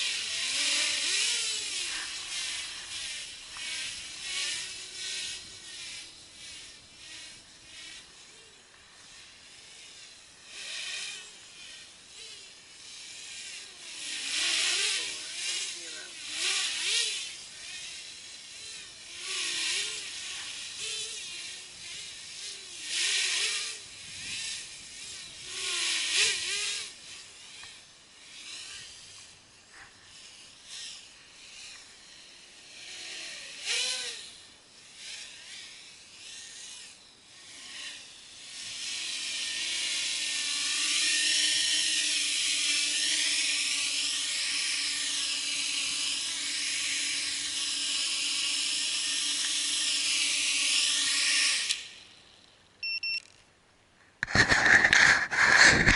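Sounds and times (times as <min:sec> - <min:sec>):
quadcopter motors whining: 0:00.0 - 0:53.5, 0:54.1 - 0:55.9.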